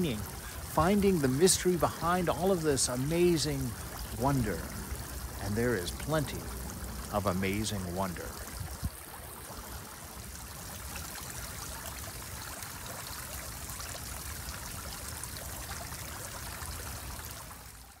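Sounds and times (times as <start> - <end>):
fountain water trickling and splashing: 0.0 - 18.0.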